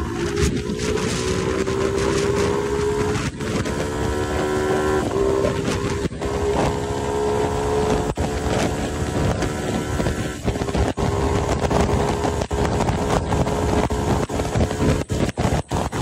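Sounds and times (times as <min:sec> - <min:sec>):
motorcycle engine at high revs: 0:00.0 - 0:16.0
wind over microphone: 0:00.0 - 0:16.0.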